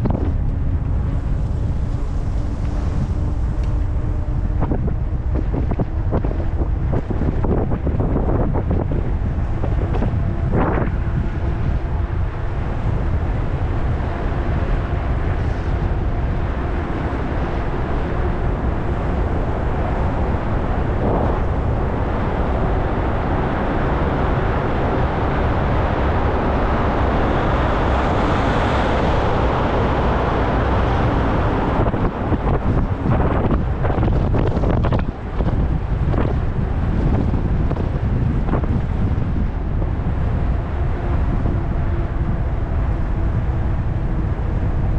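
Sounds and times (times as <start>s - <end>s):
road noise: 0.0s - 44.9s
wind buffeting microphone: 0.0s - 44.9s.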